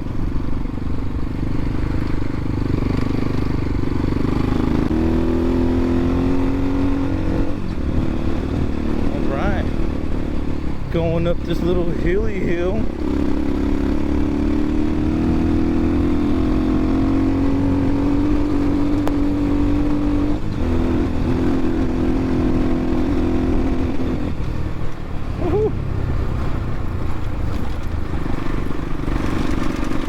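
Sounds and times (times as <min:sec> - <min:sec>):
dirt bike engine pulling uphill: 0:00.0 - 0:30.0.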